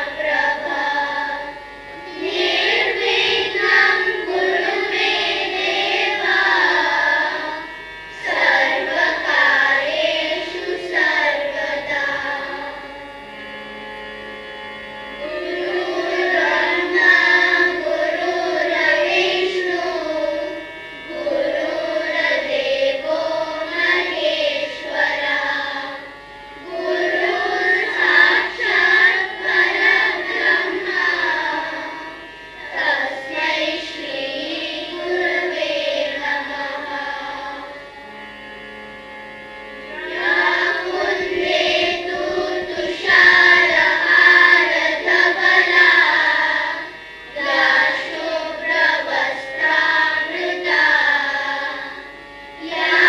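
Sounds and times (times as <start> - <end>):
boys singing in unison: 0.0 - 13.1, 15.2 - 37.9, 39.8 - 53.0.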